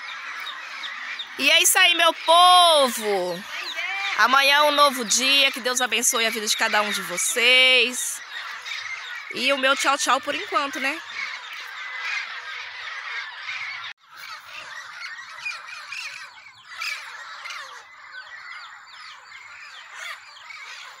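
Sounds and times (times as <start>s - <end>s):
parrots squawking and chattering: 0.0s - 21.0s.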